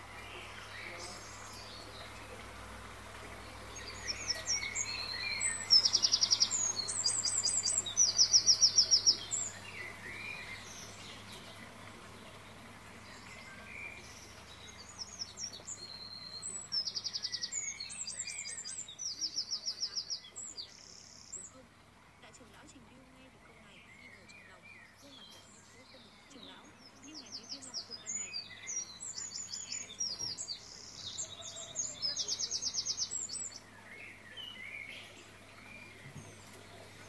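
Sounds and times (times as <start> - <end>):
songbird chirping and trilling: 0.0 - 37.0.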